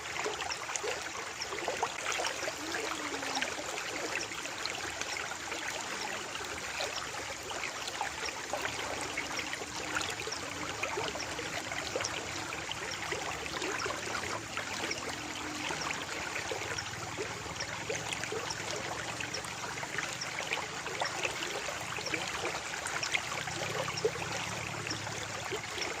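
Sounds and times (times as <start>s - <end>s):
stream water babbling: 0.0s - 26.0s.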